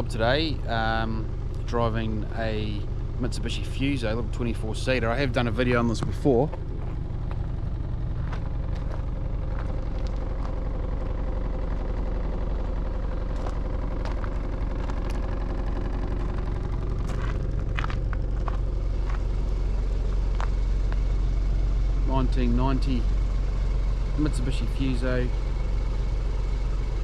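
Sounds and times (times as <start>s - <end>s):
diesel bus engine idling: 0.0s - 27.0s.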